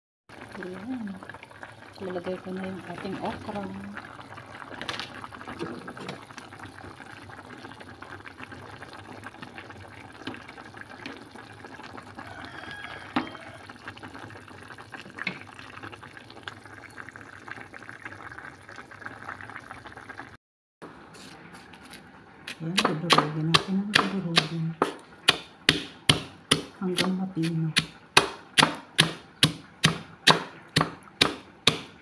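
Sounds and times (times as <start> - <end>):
broth boiling and bubbling: 0.3 - 32.0.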